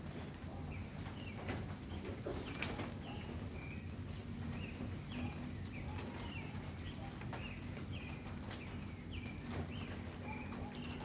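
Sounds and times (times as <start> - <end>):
low city rumble: 0.0 - 11.0
bird chirping: 0.5 - 11.0.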